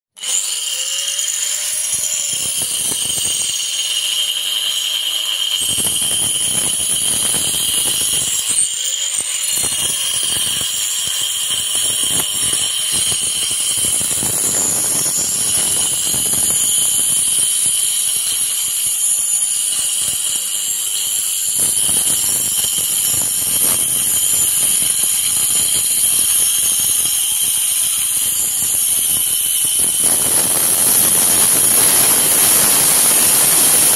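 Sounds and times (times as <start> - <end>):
angle grinder motor whine: 0.1 - 33.9
gritty grinding of brick: 0.2 - 33.9.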